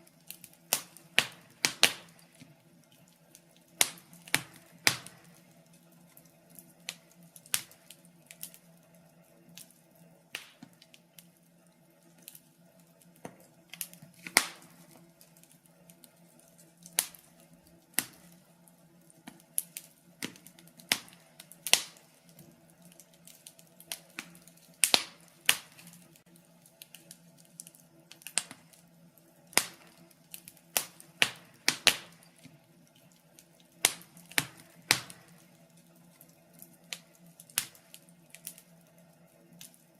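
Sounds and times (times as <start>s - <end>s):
burning logs crackling: 0.0s - 39.9s.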